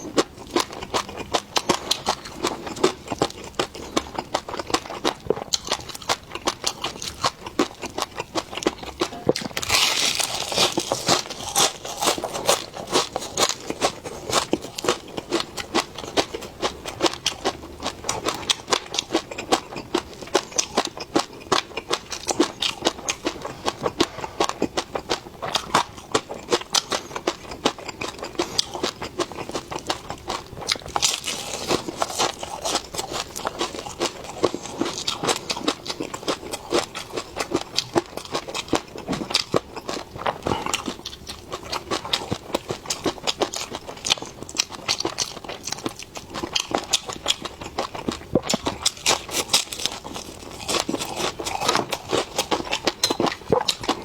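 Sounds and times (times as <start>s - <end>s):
food chewing and crunching: 0.0s - 54.0s.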